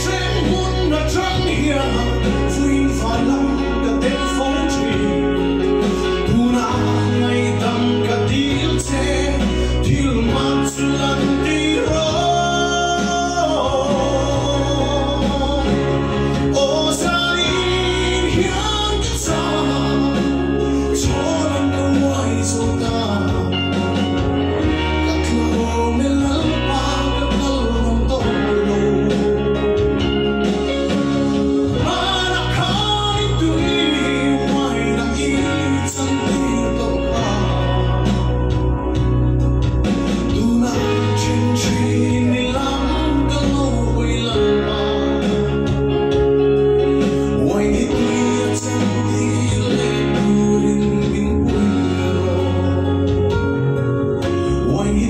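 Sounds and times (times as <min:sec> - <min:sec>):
instrumental backing music: 0:00.0 - 0:55.0
man singing into a microphone: 0:00.0 - 0:55.0.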